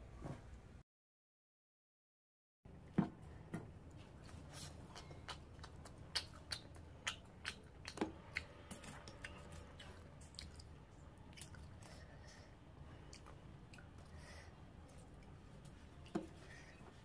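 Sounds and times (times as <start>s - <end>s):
low room hum: 2.7s - 17.0s.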